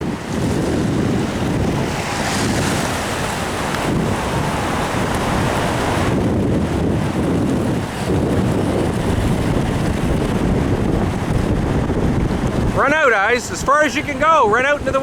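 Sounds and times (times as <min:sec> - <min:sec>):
ocean surf on beach: 0:00.0 - 0:15.0
wind rumbling on microphone: 0:00.0 - 0:15.0.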